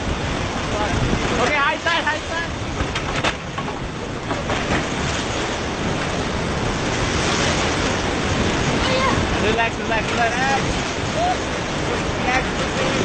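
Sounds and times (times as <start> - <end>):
whitewater rapids rushing: 0.0 - 13.0.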